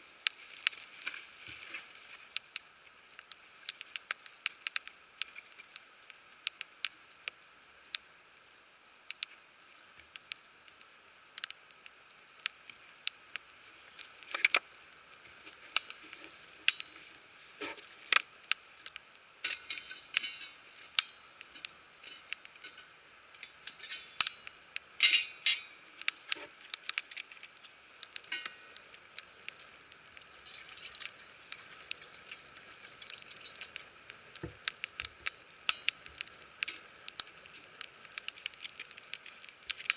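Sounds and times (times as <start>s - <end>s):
faint hiss: 0.0s - 39.9s
wood fire crackling: 0.0s - 39.9s
sharp pops of fire: 2.2s - 8.1s, 9.0s - 9.4s, 10.0s - 39.9s.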